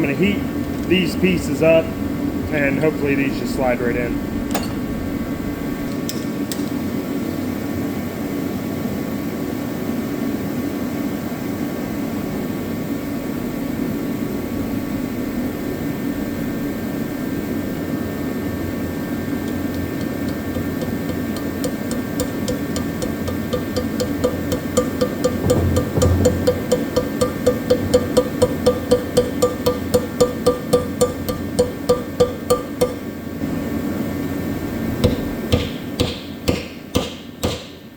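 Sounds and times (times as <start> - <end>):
heater blowing hum: 0.0 - 37.9.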